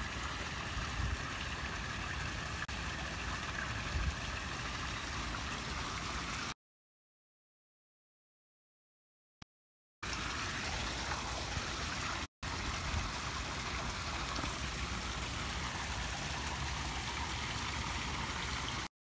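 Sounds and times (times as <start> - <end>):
fountain water splashing: 0.0 - 6.6, 10.0 - 18.9.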